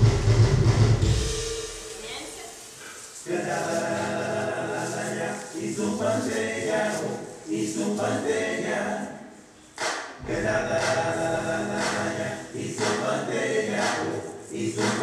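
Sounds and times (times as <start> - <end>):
voices singing dance music: 2.0 - 15.0.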